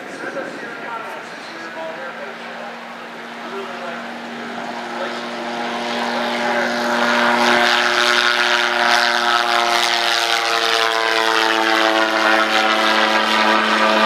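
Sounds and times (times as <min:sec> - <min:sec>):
aircraft engine and propeller droning: 0:00.0 - 0:14.0.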